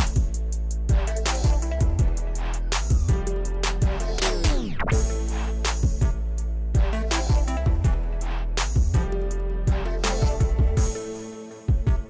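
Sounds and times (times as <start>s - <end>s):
deep bass: 0.0s - 11.0s.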